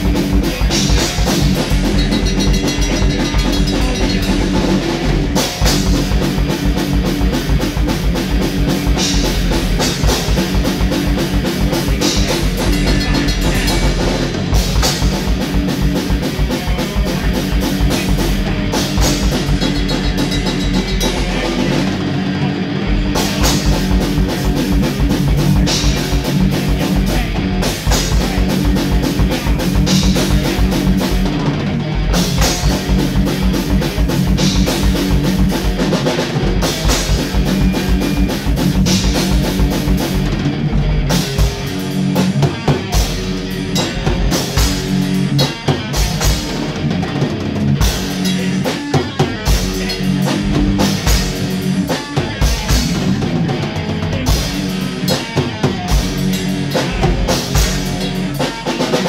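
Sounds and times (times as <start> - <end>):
distorted guitar: 0.0 - 59.0
fast bass drum pattern: 0.0 - 59.0.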